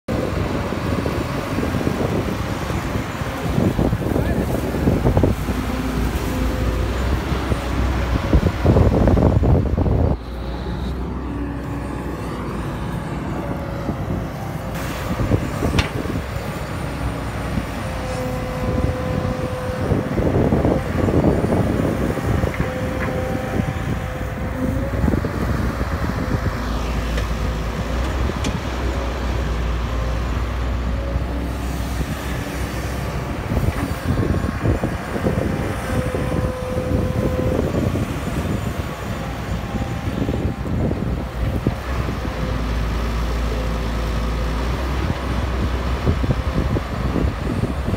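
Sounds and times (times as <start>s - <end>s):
excavator diesel engine running: 0.1s - 47.9s
hydraulic whine: 2.7s - 47.9s.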